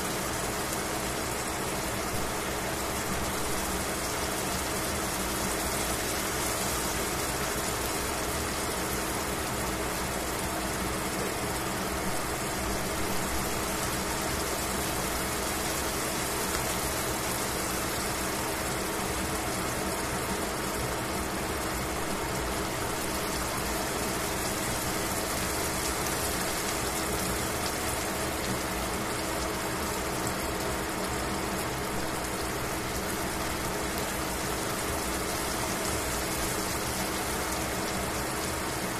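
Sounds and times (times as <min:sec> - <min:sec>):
meat sizzling in a pan: 0:00.1 - 0:38.9.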